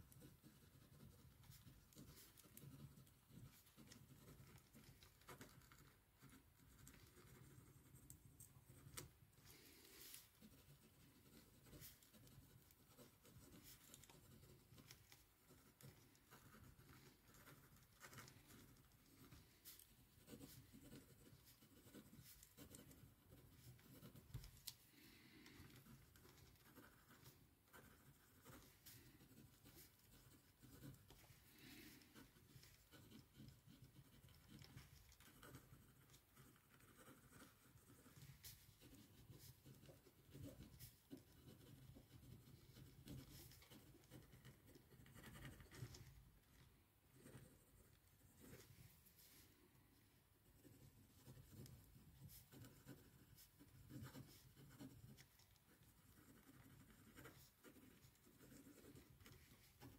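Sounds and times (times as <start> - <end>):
pen scratching on paper: 0.0 - 46.4, 47.1 - 49.4, 50.6 - 59.9.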